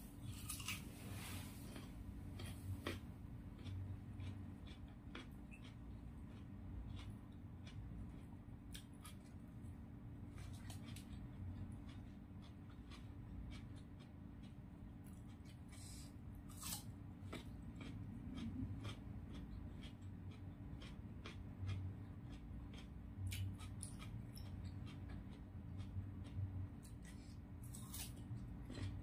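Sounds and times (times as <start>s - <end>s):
faint steady hum: 0.0s - 29.0s
crunchy chewing: 0.2s - 29.0s.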